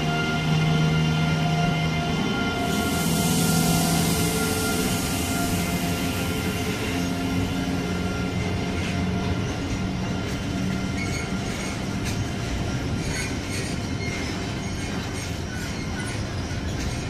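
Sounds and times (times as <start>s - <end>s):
train wheels rumbling on rails: 0.0s - 17.0s
wheel squeals: 2.2s - 17.0s.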